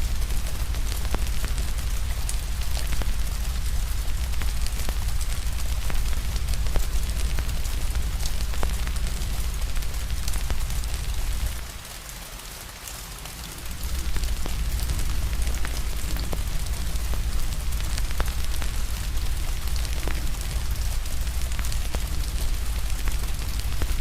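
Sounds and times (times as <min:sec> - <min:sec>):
fire crackling and popping: 0:00.0 - 0:11.9, 0:13.4 - 0:24.0
steady rain: 0:00.0 - 0:24.0.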